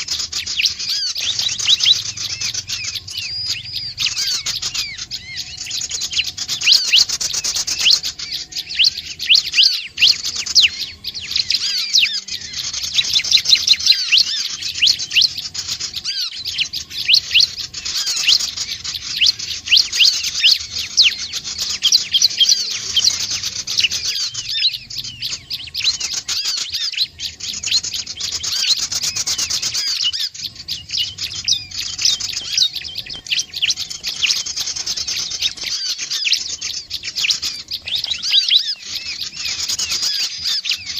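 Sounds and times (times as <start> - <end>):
bird song of high chirps: 0.0 - 40.9.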